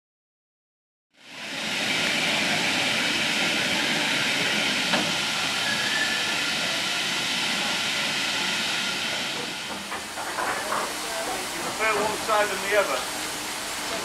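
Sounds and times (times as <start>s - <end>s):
steam locomotive hissing steam: 1.2s - 14.0s.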